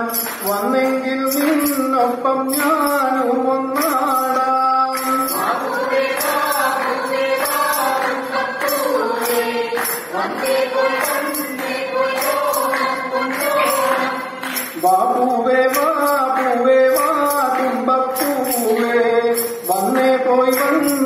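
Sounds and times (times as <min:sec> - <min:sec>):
group singing a folk song: 0:00.0 - 0:21.0
percussion beat: 0:00.0 - 0:21.0.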